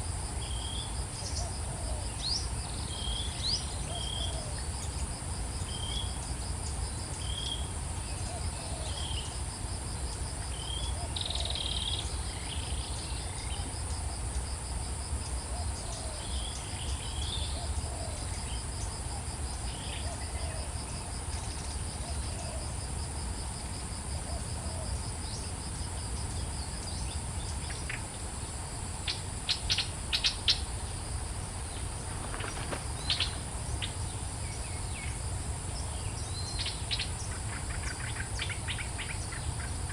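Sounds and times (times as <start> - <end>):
insects and crickets chirping: 0.0 - 39.9.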